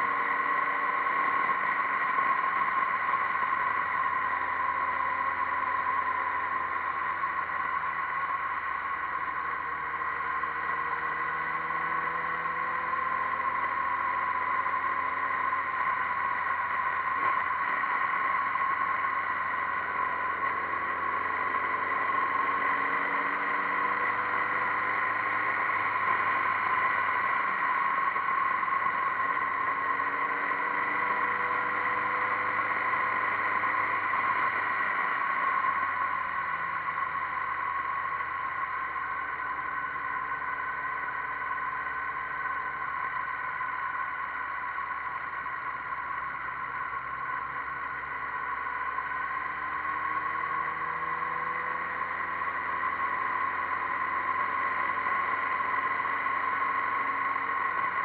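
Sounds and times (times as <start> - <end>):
motorcycle engine running: 0.0 - 58.0
steady whine: 0.0 - 58.0.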